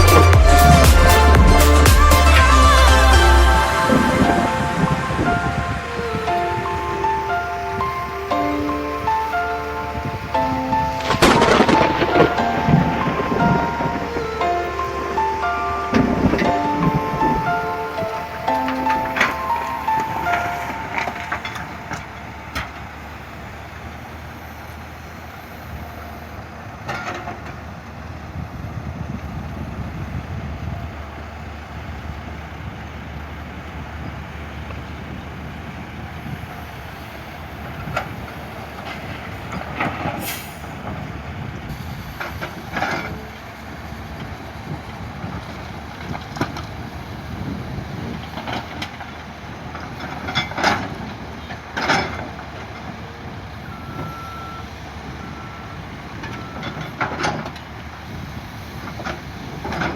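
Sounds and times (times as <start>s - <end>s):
vehicle rumbling on the move: 0.0s - 59.9s.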